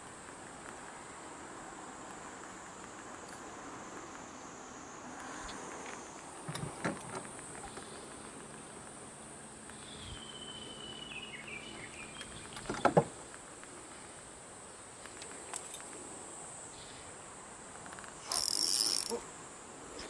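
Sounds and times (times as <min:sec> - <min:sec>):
high insect buzz: 0:01.4 - 0:13.2, 0:14.7 - 0:20.0.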